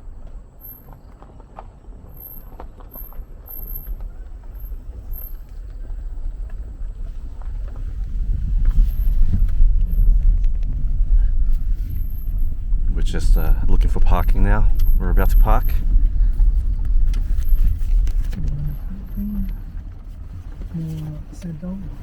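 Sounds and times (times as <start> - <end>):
vehicle rumble: 0.0 - 22.0.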